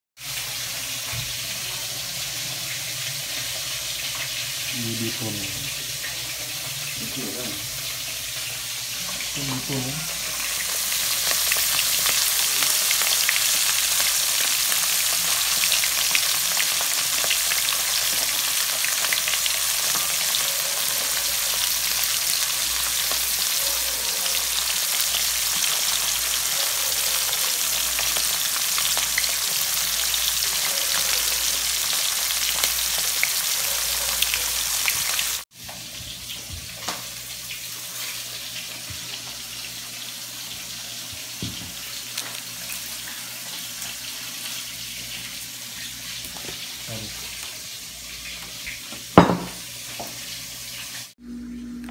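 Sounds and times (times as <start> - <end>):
fish frying in hot oil: 0.2 - 51.2.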